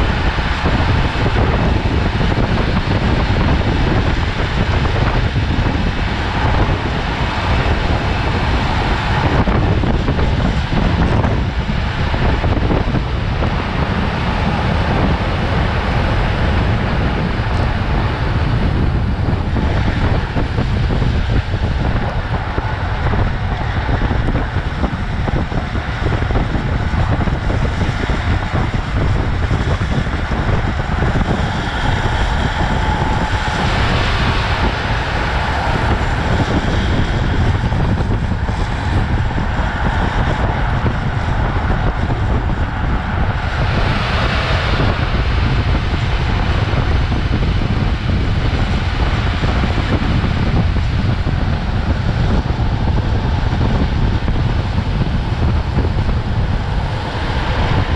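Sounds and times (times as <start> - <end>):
wheels rolling on asphalt: 0.0 - 57.9
wind buffeting microphone: 0.0 - 57.9.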